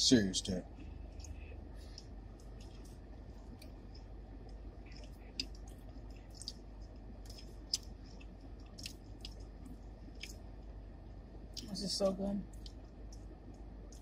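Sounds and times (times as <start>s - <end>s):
faint low hum: 0.0s - 14.0s
person chewing and eating: 0.7s - 11.6s, 12.5s - 14.0s.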